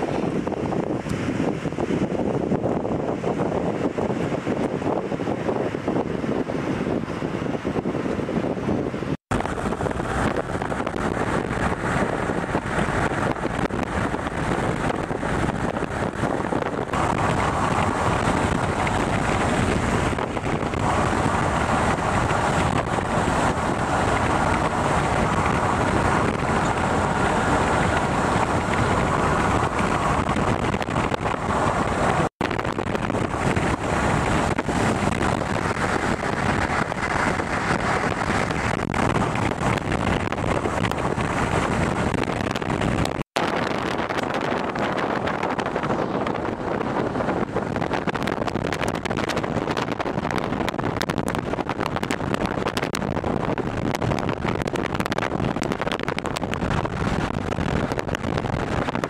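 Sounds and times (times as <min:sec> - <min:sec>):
road and wind noise in moving car: 0:00.0 - 0:59.0
wind buffeting microphone: 0:00.0 - 0:59.0.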